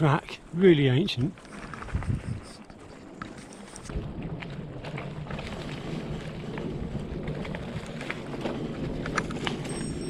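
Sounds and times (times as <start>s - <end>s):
bicycle tyres rumbling on dirt: 0.0s - 10.0s
bike rattling over bumps: 0.8s - 10.0s
wind buffeting microphone: 1.5s - 10.0s.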